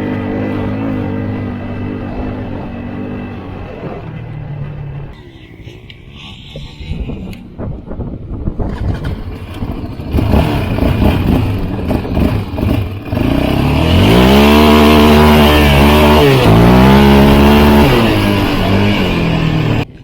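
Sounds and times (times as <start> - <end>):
atv engine revving: 0.0 - 5.2, 8.6 - 20.0.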